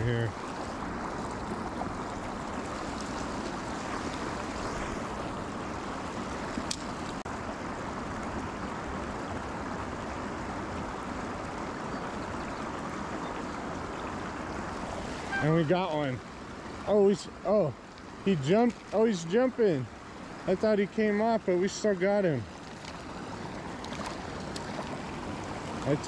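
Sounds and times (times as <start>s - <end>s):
moving water: 0.0s - 26.0s
wind: 0.0s - 26.0s.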